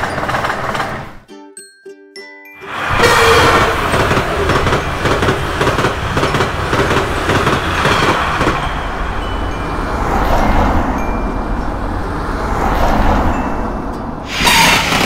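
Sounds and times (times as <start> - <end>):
passenger train passing: 0.0 - 1.3, 2.6 - 15.0
wheels clicking over rail joints: 0.0 - 1.3, 2.7 - 15.0.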